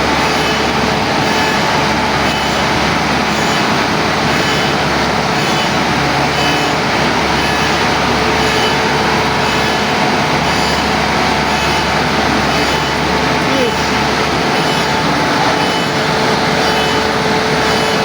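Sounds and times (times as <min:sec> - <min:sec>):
heavy diesel engine running: 0:00.0 - 0:18.0
thin steady whine: 0:00.0 - 0:18.0.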